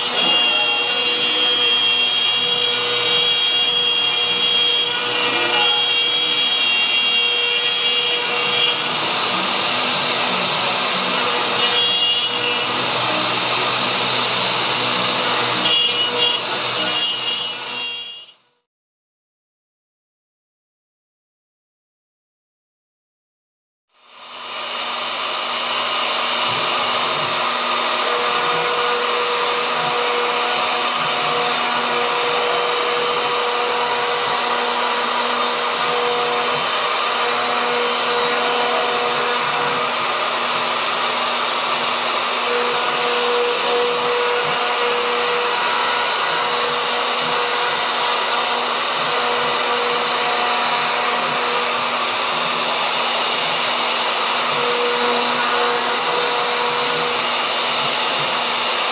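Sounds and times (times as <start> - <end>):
router spindle whine: 0.0 - 18.4, 24.0 - 58.9.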